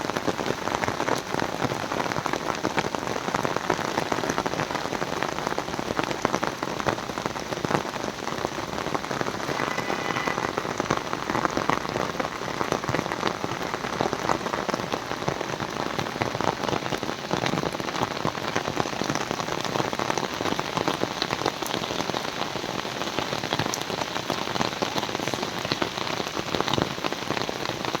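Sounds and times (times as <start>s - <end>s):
heavy rain pattering: 0.0s - 28.0s.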